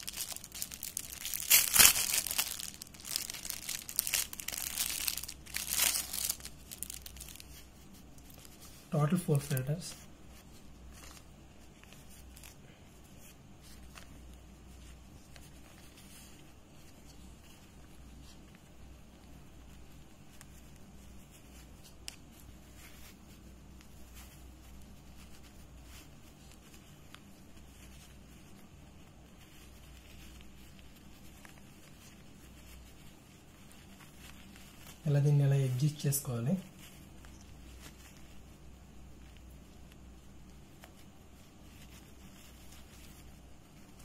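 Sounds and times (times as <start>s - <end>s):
low steady hum: 0.0s - 44.0s
rustling of filter sheets: 0.0s - 44.0s.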